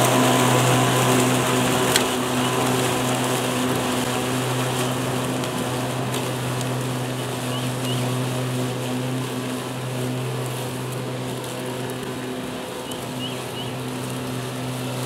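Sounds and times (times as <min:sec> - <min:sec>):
electric lawn mower humming: 0:00.0 - 0:15.0.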